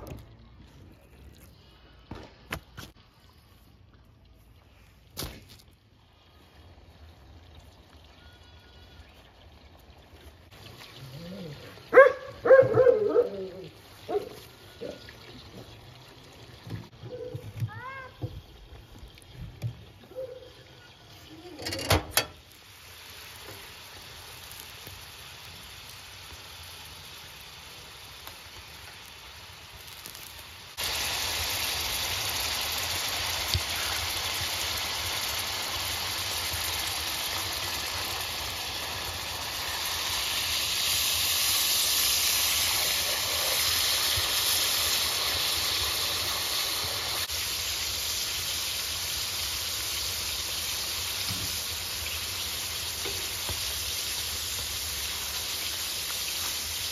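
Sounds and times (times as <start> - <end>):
offal sizzling in a pan: 5.9 - 56.9.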